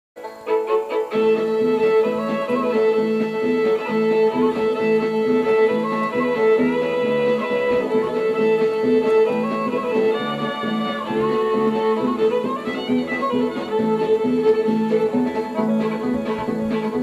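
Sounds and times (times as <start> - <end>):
fiddle over guitar music: 0.2 - 17.0.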